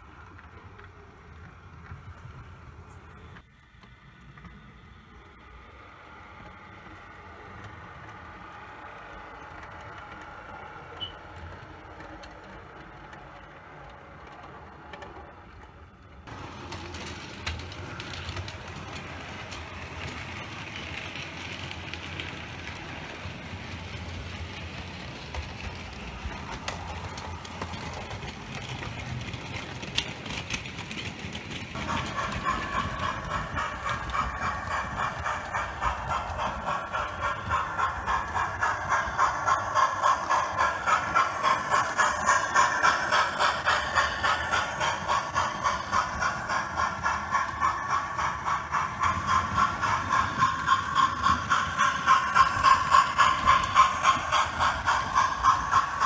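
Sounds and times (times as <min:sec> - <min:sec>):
model train motors humming: 0:00.0 - 0:56.0
pulsing rattle: 0:03.4 - 0:56.0.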